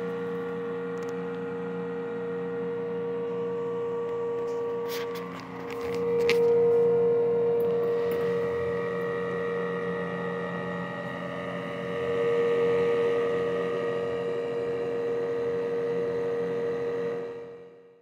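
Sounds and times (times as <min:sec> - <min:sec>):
exhaust blower humming: 0:00.0 - 0:15.9.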